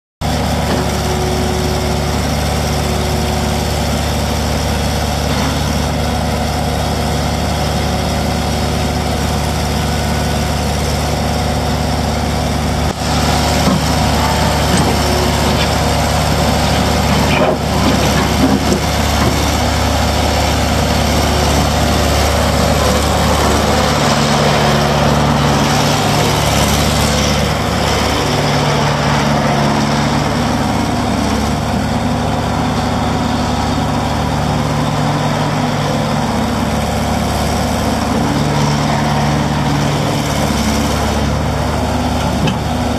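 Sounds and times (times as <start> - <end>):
diesel engine idling and revving: 0.2 - 42.9.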